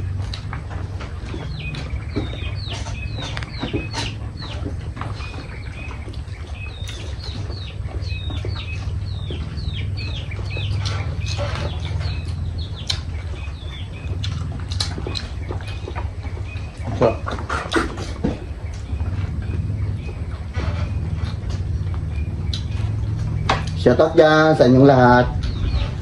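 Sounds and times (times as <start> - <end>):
birds chirping: 0.0 - 26.0
clicks of people eating: 0.0 - 26.0
steady low hum: 0.0 - 26.0.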